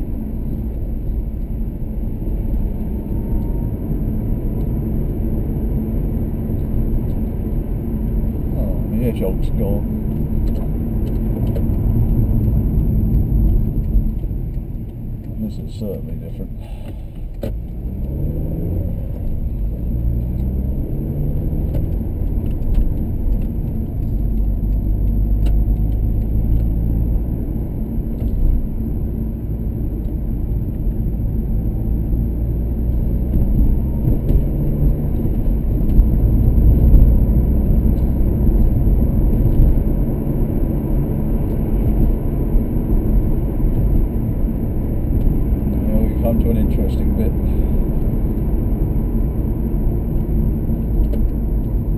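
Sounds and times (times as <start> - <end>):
car engine accelerating: 0.0 - 51.9
road noise inside car: 0.0 - 51.9.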